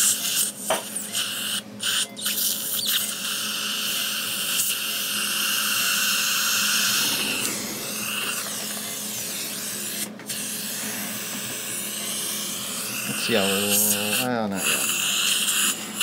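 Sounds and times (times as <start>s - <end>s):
suction tip hissing: 0.0s - 16.0s.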